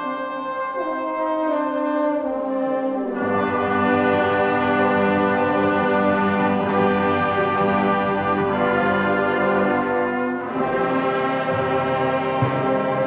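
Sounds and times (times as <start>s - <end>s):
brass band playing a hymn: 0.0s - 13.0s.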